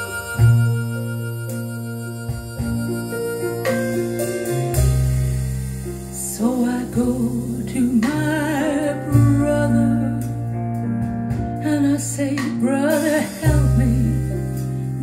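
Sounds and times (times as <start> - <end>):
bass notes and accompaniment: 0.0 - 15.0.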